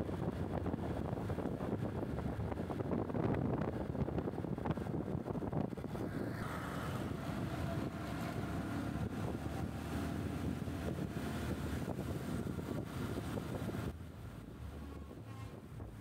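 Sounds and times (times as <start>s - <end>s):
motorcycle engine rumble: 0.0s - 16.0s
wind rushing over microphone: 0.0s - 16.0s.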